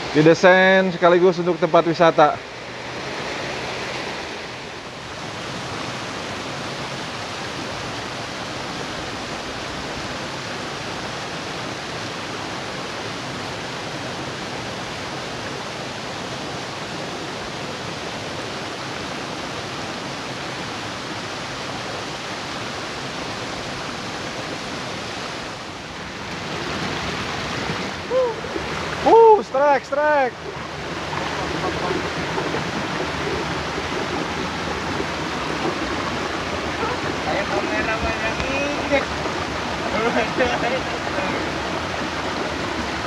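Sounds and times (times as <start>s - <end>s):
water rushing over rocks: 0.0s - 43.0s.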